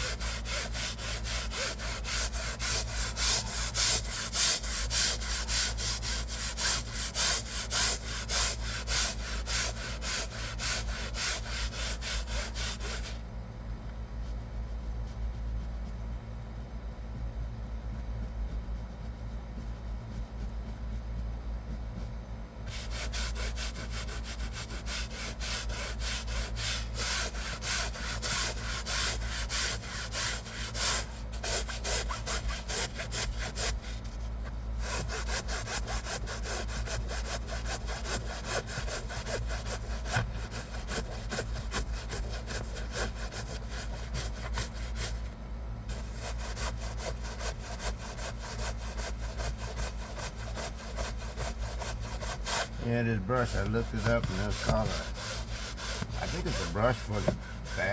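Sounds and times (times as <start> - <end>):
brush scrubbing upholstery: 0.0 - 13.2, 14.2 - 57.9.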